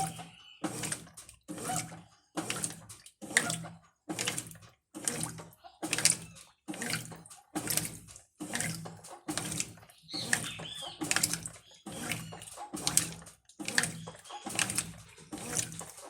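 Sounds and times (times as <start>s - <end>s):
washing machine motor hum: 0.0s - 16.0s
water sloshing in washing machine: 0.0s - 16.0s.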